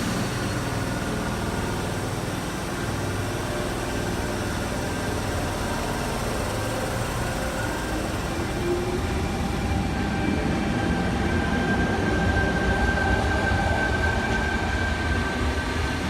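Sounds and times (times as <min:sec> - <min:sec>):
electric train rumbling past: 0:00.0 - 0:16.0
steady high whine: 0:00.0 - 0:16.0.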